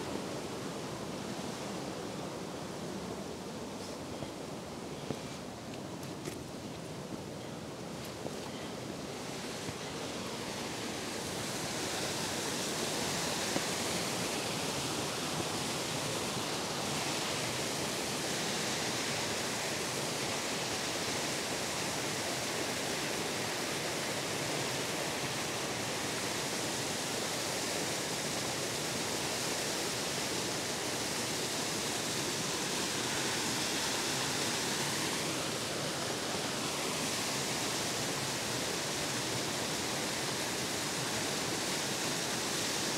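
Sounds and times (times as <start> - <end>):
waterfall rushing over rocks: 0.0 - 5.7, 6.9 - 42.9.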